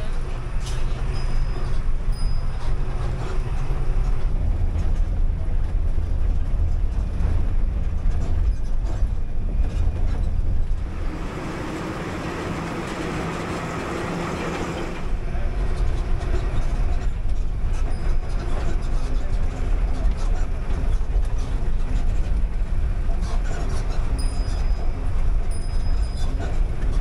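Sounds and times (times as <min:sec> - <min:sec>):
bus engine rumble: 0:00.0 - 0:27.0
road noise: 0:00.0 - 0:27.0.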